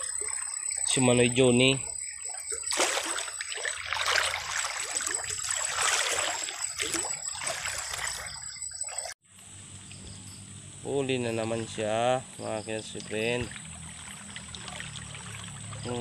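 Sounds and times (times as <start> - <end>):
stream water trickling: 0.0 - 16.0.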